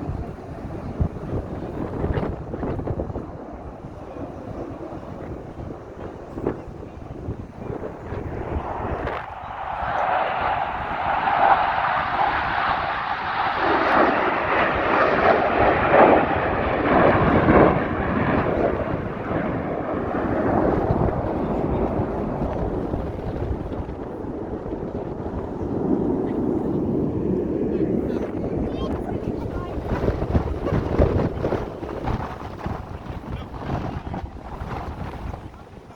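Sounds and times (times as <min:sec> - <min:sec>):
airplane passing overhead: 0:00.0 - 0:35.9.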